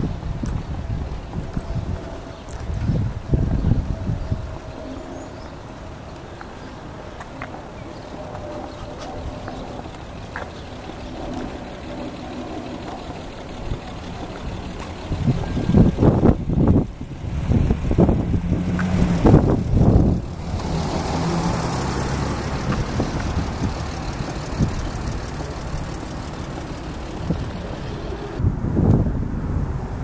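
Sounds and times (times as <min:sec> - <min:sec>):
wind buffeting microphone: 0:00.0 - 0:06.0, 0:07.8 - 0:30.0
street noise: 0:00.0 - 0:30.0.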